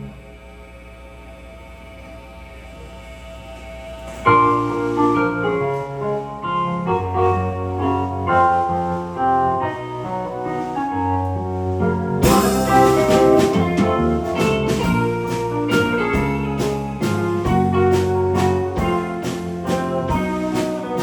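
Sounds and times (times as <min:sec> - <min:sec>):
piano keyboard chords and melody: 0:00.0 - 0:21.0.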